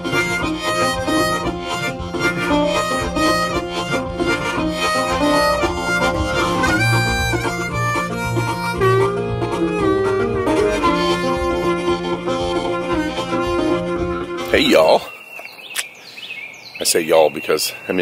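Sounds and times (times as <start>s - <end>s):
acoustic guitar: 0.0s - 14.7s
harmonica: 0.0s - 15.1s.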